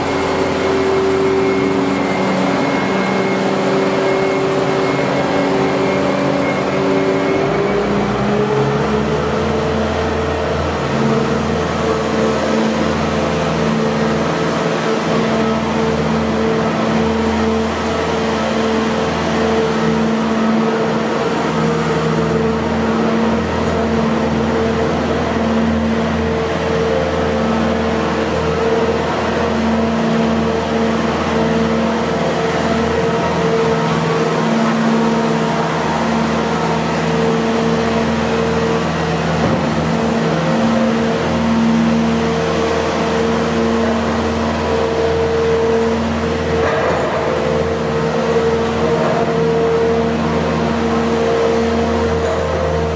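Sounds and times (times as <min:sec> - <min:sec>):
diesel engine of loader running: 0:00.0 - 0:52.9.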